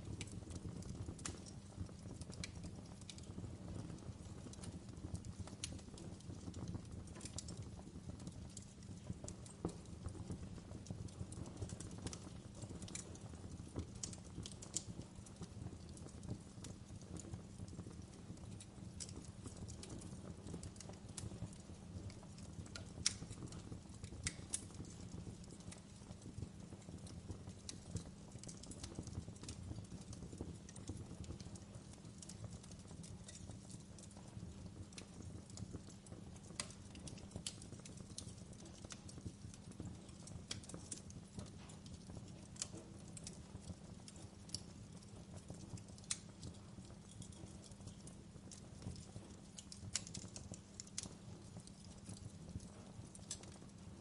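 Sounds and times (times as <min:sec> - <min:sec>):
low rumble of flames: 0:00.0 - 0:54.0
wood fire crackling: 0:00.0 - 0:54.0.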